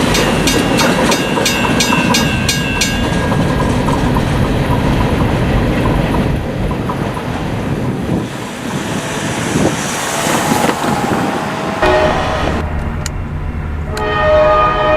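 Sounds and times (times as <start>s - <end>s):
wind buffeting microphone: 0.0s - 13.9s
freight train rumbling: 0.0s - 14.9s.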